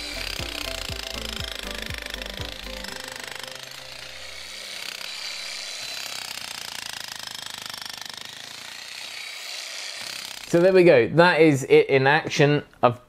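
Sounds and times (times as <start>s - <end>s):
demolition hammer chiselling concrete: 0.0s - 10.6s.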